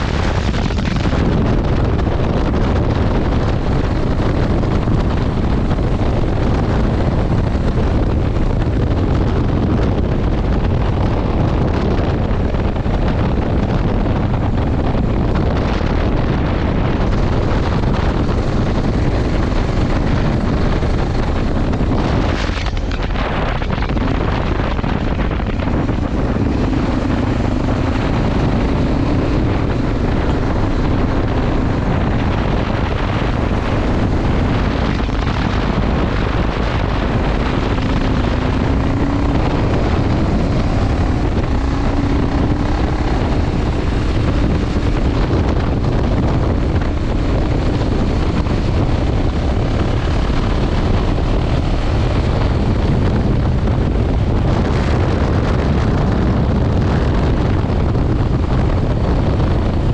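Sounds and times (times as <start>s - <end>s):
motorcycle engine running: 0.0s - 59.9s
wind buffeting on microphone: 0.0s - 59.9s.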